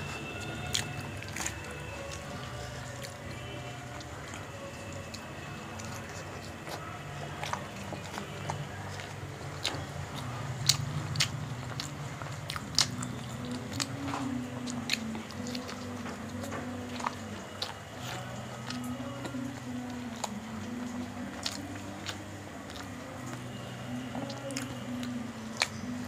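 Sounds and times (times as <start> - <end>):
chewing and mouth smacks: 0.0 - 26.0
low steady hum: 0.0 - 26.0.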